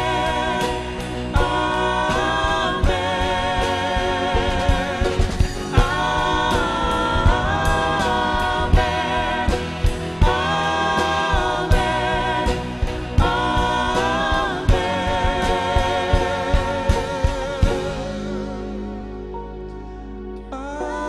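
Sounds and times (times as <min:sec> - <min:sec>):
drum kit beat: 0:00.0 - 0:18.8
voices singing in harmony: 0:00.0 - 0:18.8
electric bass: 0:00.0 - 0:21.0.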